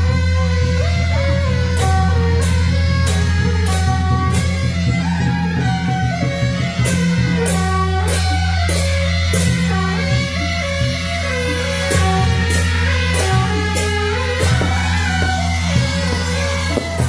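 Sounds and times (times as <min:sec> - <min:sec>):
shawms playing melody: 0:00.0 - 0:17.0
hand cymbals clashing: 0:01.3 - 0:17.0.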